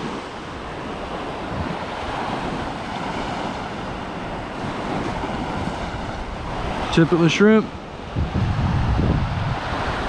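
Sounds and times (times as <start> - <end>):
surf washing onto beach: 0.0 - 10.0
wind buffeting microphone: 0.0 - 10.0.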